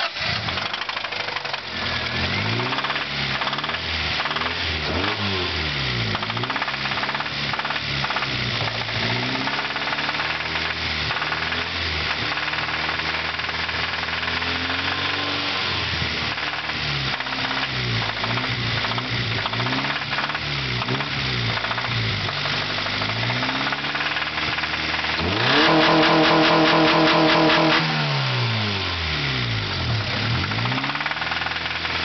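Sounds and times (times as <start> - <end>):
car engine running: 0.0 - 32.0
heavy rhythmic engine knock: 0.4 - 5.2, 5.9 - 15.4, 16.1 - 28.0, 29.6 - 32.0.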